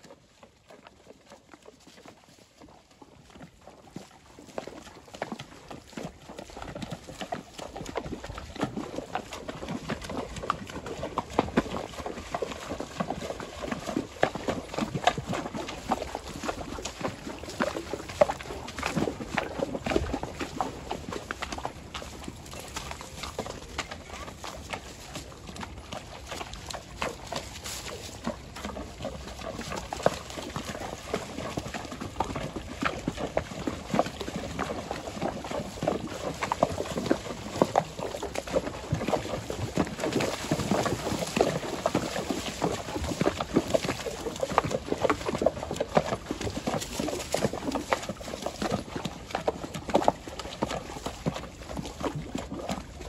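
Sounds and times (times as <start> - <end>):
hooves splashing in water: 0.0 - 53.0.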